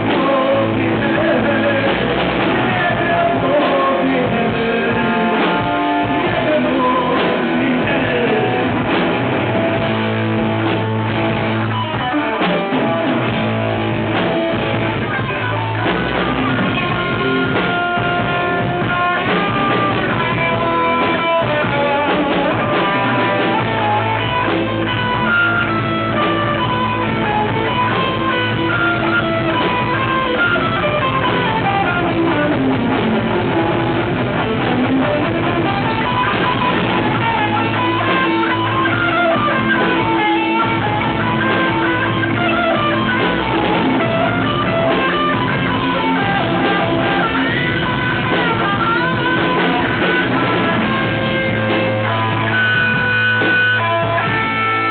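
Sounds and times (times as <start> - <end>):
bass: 0.0 - 54.9
drums: 0.0 - 54.9
guitar melodic runs: 0.0 - 54.9.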